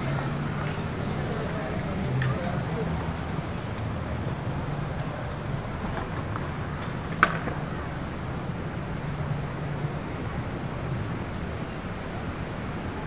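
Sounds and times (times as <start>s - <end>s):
bicycle ride rumble and hiss: 0.0s - 13.0s.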